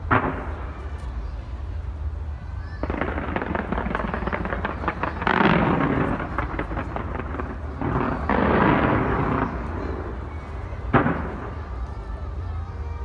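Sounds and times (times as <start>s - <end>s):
distant fireworks booming: 0.0s - 1.5s, 2.7s - 12.1s
rolling echoing rumble: 0.0s - 13.0s.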